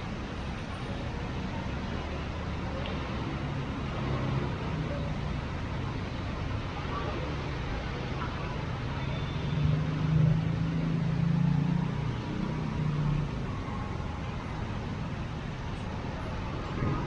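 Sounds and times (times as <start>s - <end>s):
traffic in heavy rain hiss: 0.0s - 17.0s.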